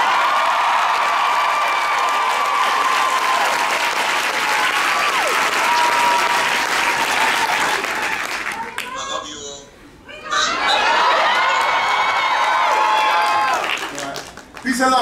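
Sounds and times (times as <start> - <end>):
audience cheering: 0.0 - 8.9, 10.3 - 14.2
audience applauding: 0.0 - 9.0, 10.8 - 15.0.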